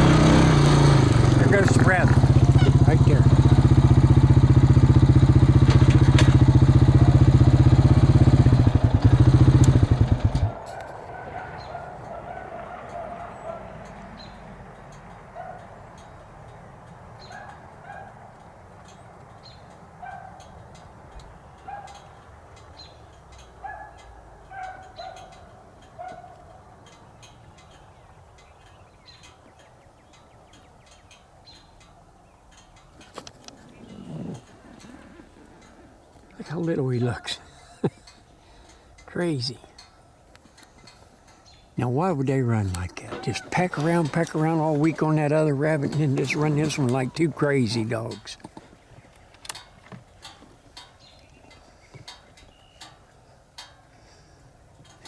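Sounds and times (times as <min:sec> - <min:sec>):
vehicle engine idling: 0:00.0 - 0:28.1, 0:32.6 - 0:55.0
distant beagles baying: 0:00.0 - 0:55.0.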